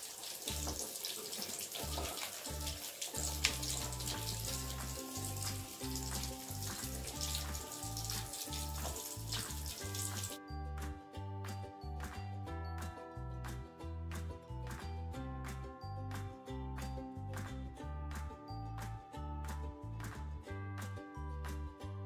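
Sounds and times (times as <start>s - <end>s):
background music with bass line: 1.9s - 22.0s.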